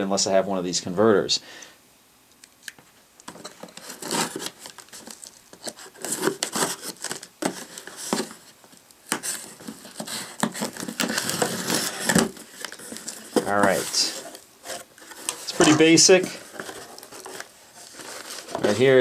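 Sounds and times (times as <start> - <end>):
plastic packaging crinkling: 3.3 - 19.0.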